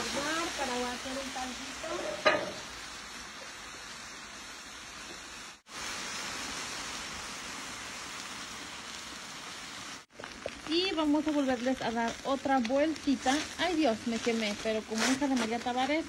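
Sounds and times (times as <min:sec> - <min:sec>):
food sizzling on griddle: 0:00.0 - 0:16.0.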